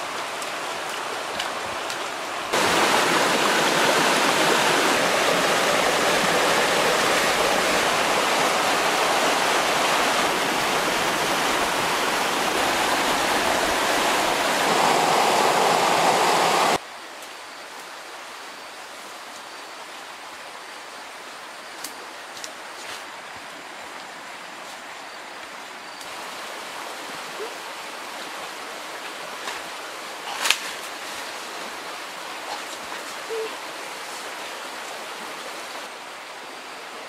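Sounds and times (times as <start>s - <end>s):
stream rushing and splashing: 0.0s - 37.0s.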